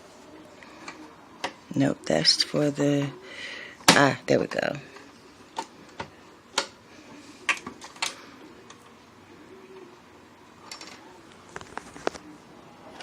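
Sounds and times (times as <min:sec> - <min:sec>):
faint machine hum: 0:00.0 - 0:13.0.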